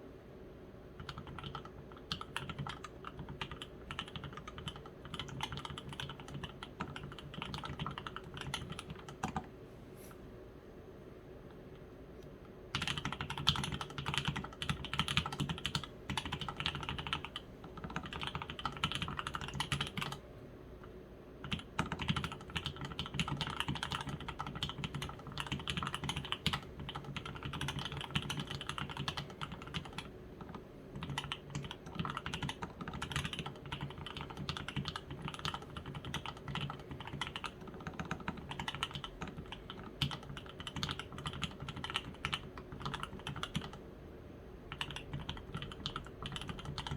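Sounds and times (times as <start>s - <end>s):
mechanical keyboard typing: 1.0s - 9.5s, 12.7s - 20.2s, 21.4s - 43.8s, 44.7s - 46.9s.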